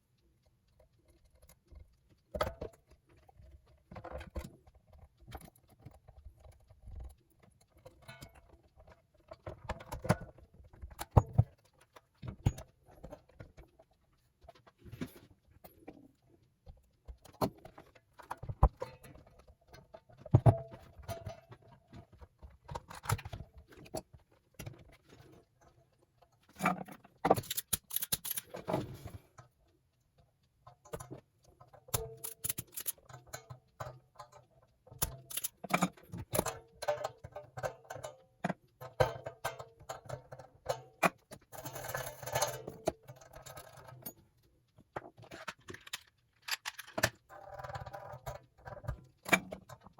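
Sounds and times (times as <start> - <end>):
small parts and tools clicking: 0.0 - 49.9.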